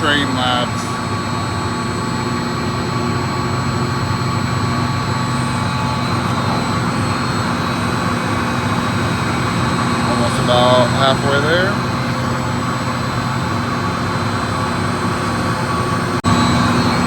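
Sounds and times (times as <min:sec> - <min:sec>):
chiller humming and rushing: 0:00.0 - 0:17.0
low multi-tone drone: 0:00.0 - 0:17.0.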